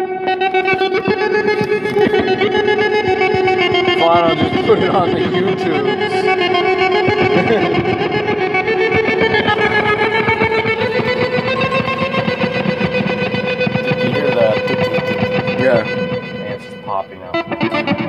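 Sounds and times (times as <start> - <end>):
electric guitar with effects: 0.0 - 18.0.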